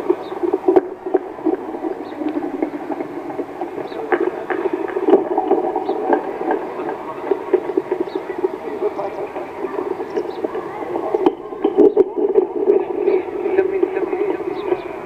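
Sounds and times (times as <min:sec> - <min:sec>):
murmur of crowd voices: 0:00.0 - 0:15.0.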